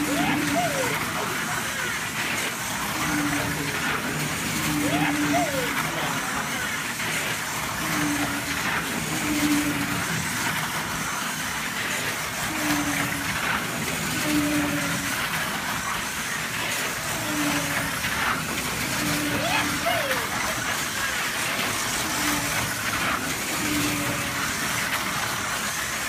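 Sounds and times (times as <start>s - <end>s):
slot car motors whirring: 0.0s - 26.0s.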